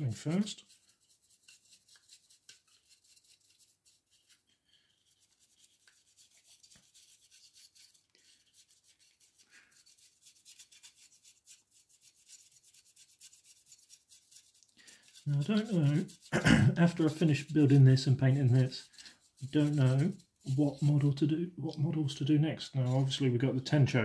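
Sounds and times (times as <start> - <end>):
brush scratching strokes: 0.0 - 23.7.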